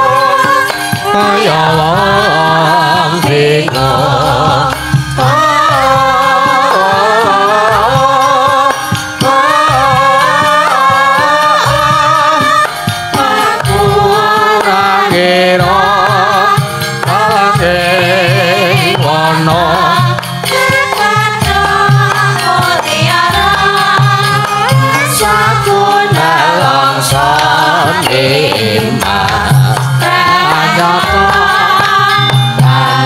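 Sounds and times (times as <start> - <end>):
instrumental backing: 0.0 - 33.0
women singing together with vibrato: 0.0 - 33.0.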